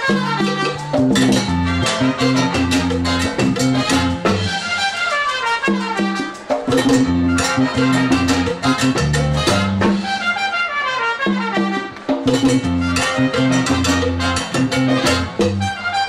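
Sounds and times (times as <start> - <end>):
salsa band playing: 0.0 - 16.0
trumpet section: 0.0 - 16.0.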